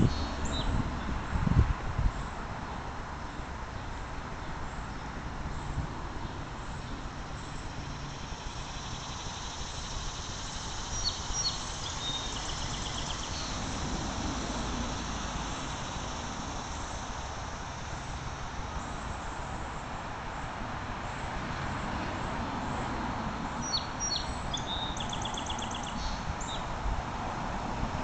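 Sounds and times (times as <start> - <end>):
outdoor rumble and hiss: 0.0 - 28.0.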